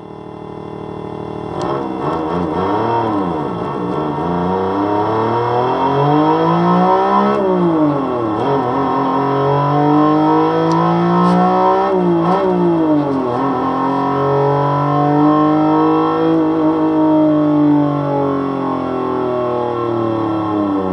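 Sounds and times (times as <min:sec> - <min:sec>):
synthesized engine accelerating: 0:01.4 - 0:20.9.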